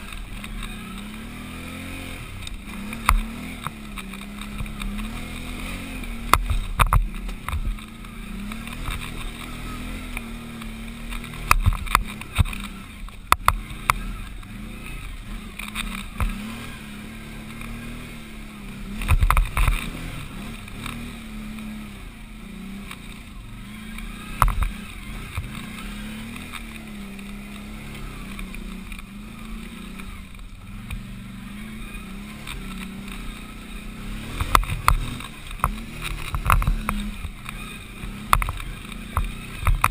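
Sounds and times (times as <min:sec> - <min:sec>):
atv engine revving uphill: 0:00.0 - 0:39.9.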